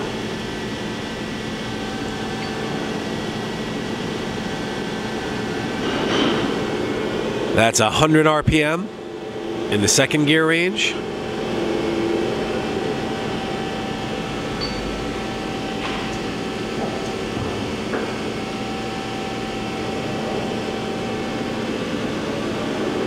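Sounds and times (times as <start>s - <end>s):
lathe spindle drive humming: 0.0s - 7.6s, 8.9s - 23.0s.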